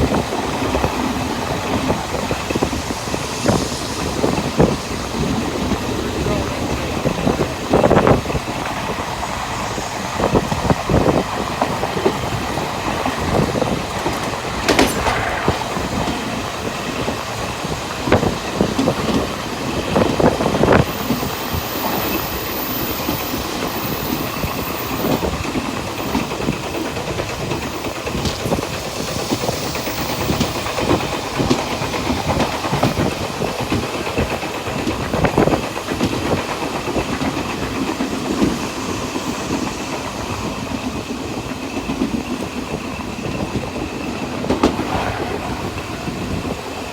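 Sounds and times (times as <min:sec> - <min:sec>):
train rolling rumble: 0:00.0 - 0:46.9
wheels clacking over rail joints: 0:04.2 - 0:46.9.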